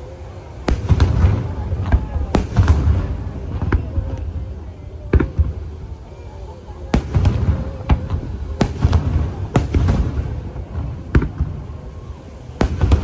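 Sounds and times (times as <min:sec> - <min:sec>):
low rumble of bursts: 0:00.0 - 0:13.0.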